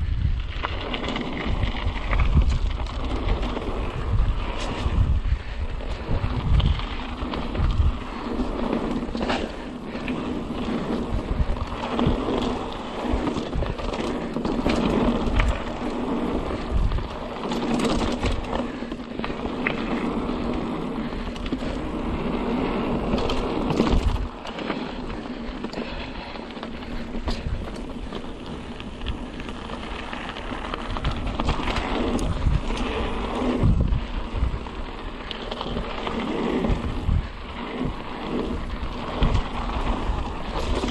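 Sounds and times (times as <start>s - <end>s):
bike rattling over bumps: 0.0s - 40.9s
bike tyres on dirt: 0.0s - 40.9s.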